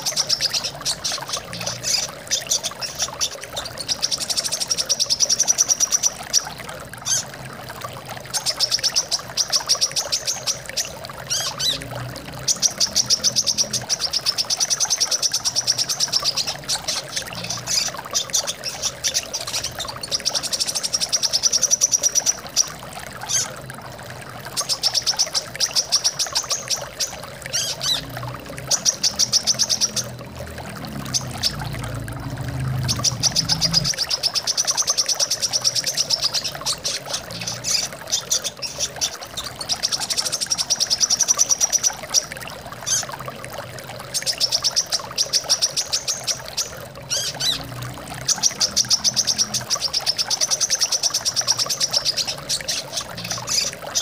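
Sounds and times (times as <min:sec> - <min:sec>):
trickle of flowing water: 0:00.0 - 0:54.0.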